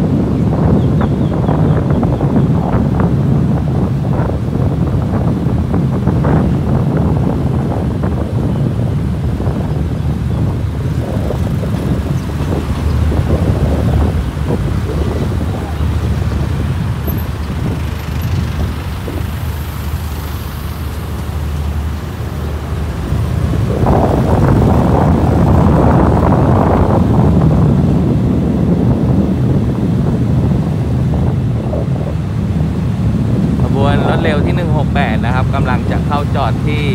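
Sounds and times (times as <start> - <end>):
road traffic: 0.0 - 36.9.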